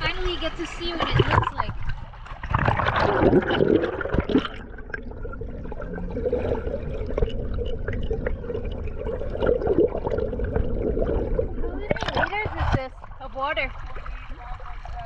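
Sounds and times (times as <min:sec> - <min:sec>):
underwater rush of water: 0:00.0 - 0:15.0
water splashing: 0:00.0 - 0:15.0.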